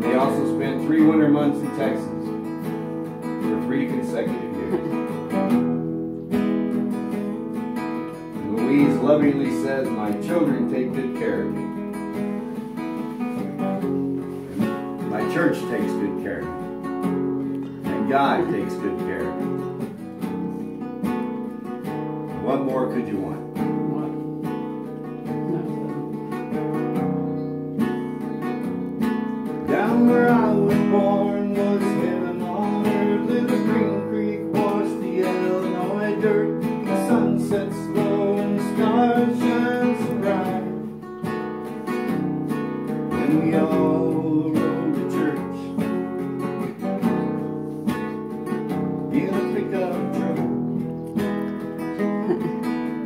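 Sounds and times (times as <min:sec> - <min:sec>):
classical guitar strummed and picked: 0:00.0 - 0:53.0.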